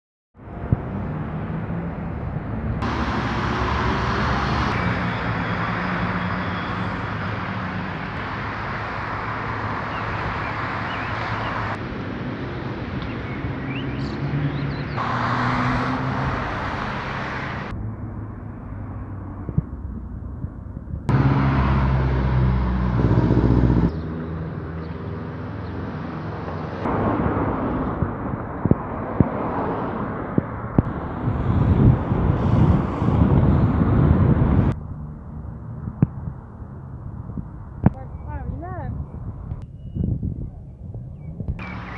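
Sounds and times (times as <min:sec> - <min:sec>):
road traffic: 0:00.4 - 0:40.0, 0:40.6 - 0:41.9.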